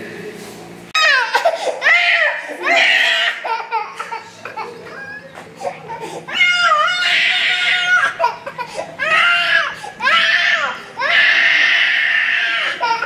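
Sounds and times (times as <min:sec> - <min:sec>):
small child crying: 0:01.0 - 0:13.0.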